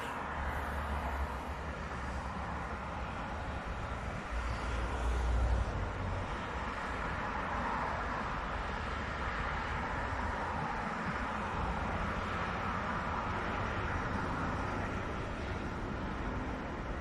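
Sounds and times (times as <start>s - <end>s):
motorway traffic: 0.0s - 17.0s.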